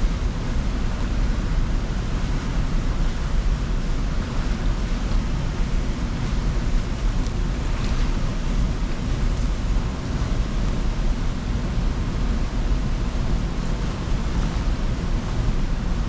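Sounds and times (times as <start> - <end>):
rushing outdoor noise: 0.0 - 16.0.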